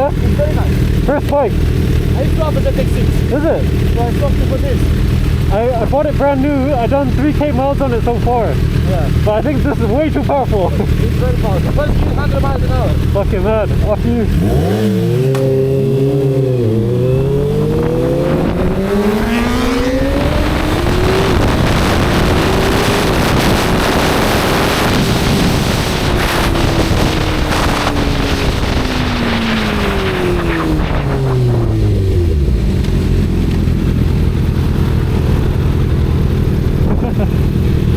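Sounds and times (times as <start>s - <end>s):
motorcycle engine revving: 0.0s - 37.9s
rushing wind: 0.0s - 37.9s.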